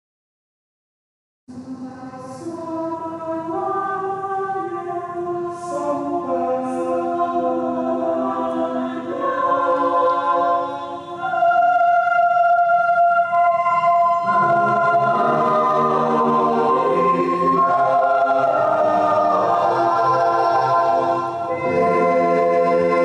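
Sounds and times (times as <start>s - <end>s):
choir singing a hymn: 1.6s - 23.0s.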